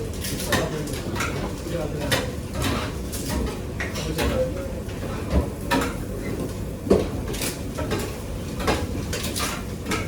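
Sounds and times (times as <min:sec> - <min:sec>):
utensils and cookware clinking: 0:00.0 - 0:10.0.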